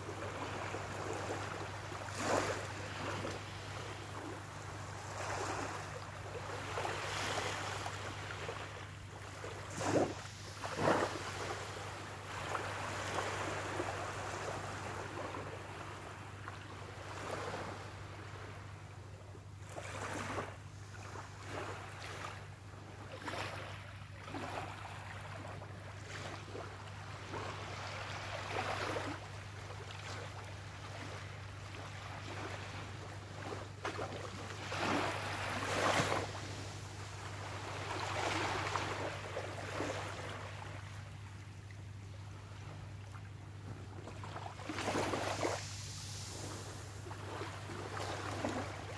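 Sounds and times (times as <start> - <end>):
waves lapping on sandy shore: 0.0 - 48.9.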